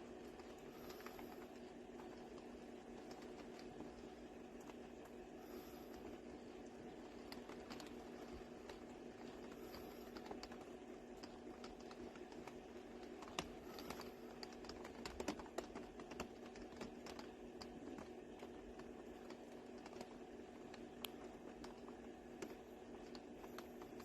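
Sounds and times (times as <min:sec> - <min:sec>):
rain drops tapping on roof: 0:00.0 - 0:24.0
steady low hum: 0:00.0 - 0:24.0.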